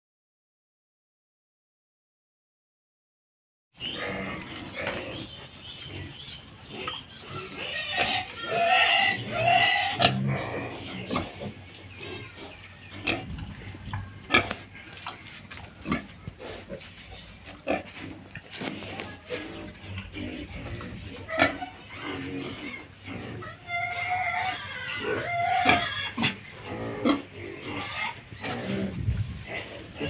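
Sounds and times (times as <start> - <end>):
pigs grunting and squealing: 3.8 - 30.0.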